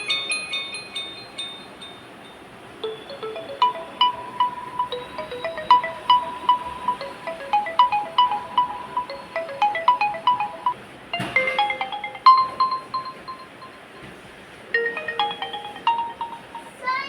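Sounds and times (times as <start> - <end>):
phone ringtone melody: 0.0 - 1.4, 2.8 - 17.0.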